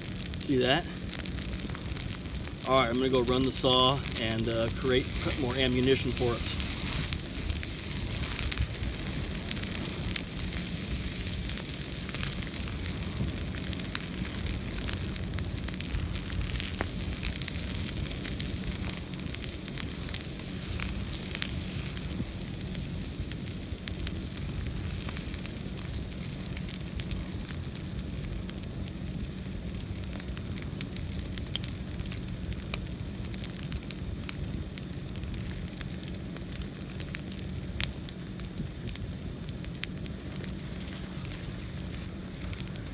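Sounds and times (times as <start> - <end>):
brush pile fire roaring: 0.0 - 42.9
fire crackling and popping: 0.0 - 42.9.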